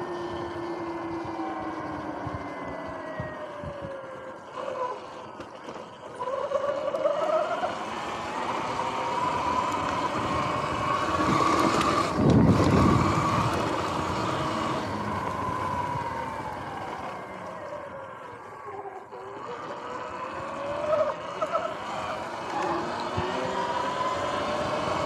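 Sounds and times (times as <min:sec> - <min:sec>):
electric motor whining: 0:00.0 - 0:25.0
wind: 0:00.0 - 0:25.0.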